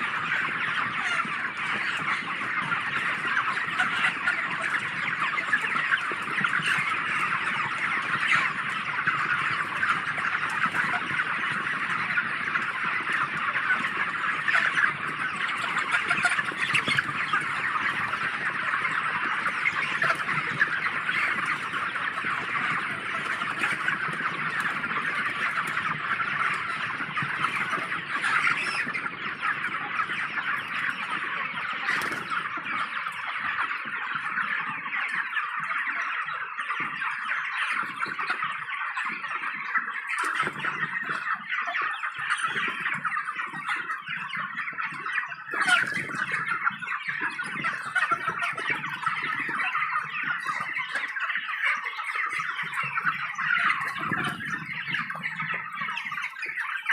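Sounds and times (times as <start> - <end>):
chickens chirping and clucking: 0.0 - 56.9.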